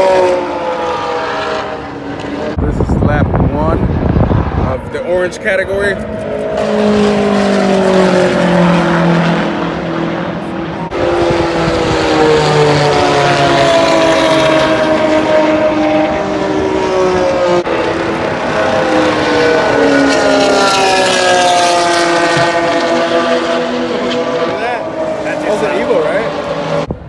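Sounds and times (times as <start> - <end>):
race car engines at high revs passing: 0.0 - 27.0.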